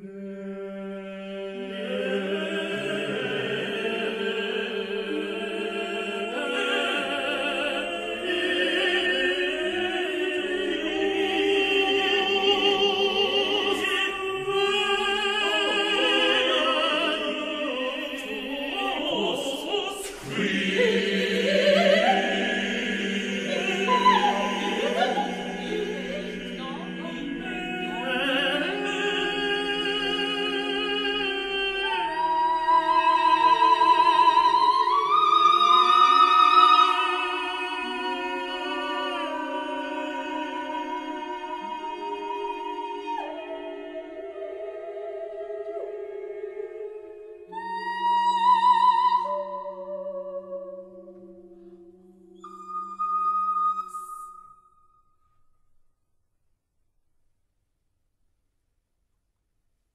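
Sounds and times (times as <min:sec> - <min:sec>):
choir singing sustained chords: 0:00.0 - 0:54.9.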